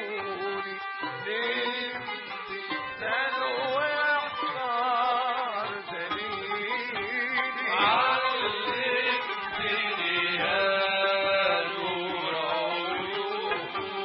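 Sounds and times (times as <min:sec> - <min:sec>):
instrumental accompaniment: 0:00.0 - 0:14.0
man singing: 0:00.0 - 0:14.0.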